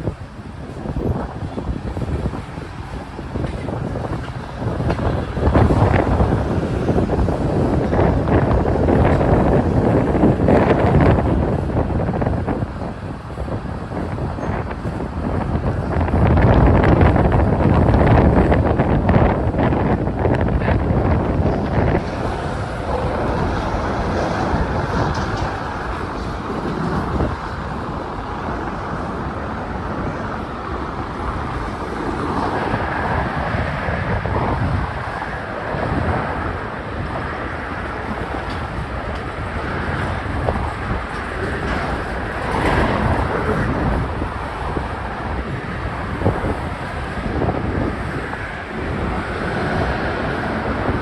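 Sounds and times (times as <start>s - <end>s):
passing train: 0.0s - 51.0s.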